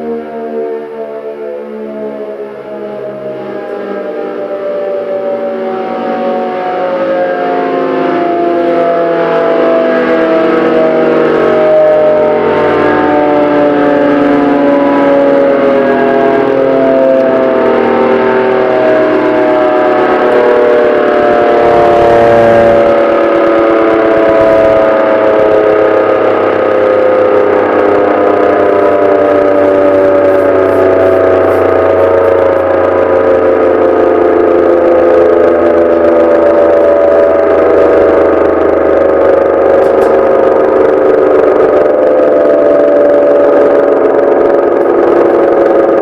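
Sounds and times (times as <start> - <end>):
air-raid siren howling: 0.0 - 46.0.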